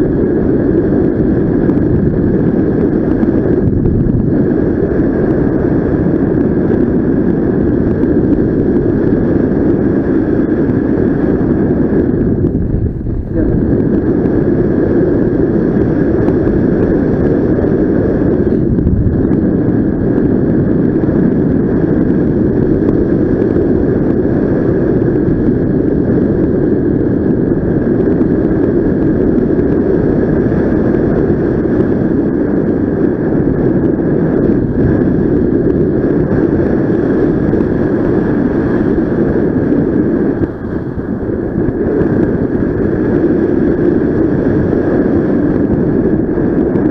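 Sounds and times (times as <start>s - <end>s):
thin steady whine: 0.0s - 46.9s
wind rushing over microphone: 0.0s - 46.9s.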